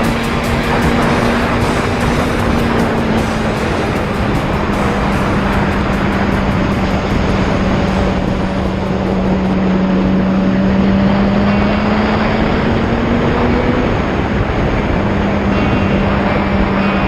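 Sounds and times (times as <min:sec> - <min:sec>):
vehicle engine droning: 0:00.0 - 0:17.0
wind and road noise: 0:00.0 - 0:17.0.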